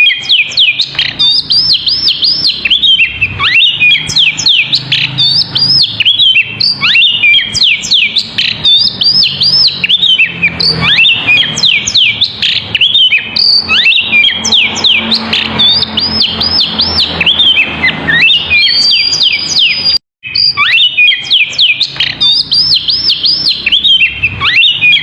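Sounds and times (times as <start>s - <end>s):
songbird singing fast whistles: 0.0s - 25.0s.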